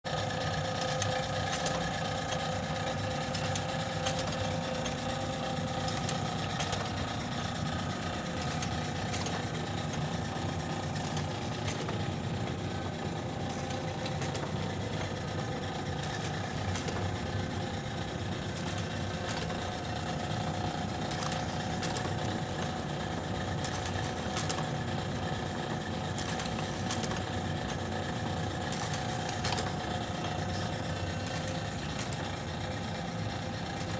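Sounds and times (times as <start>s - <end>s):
light mechanical clicks: 0.1s - 33.9s
machine motor hum: 0.1s - 33.9s.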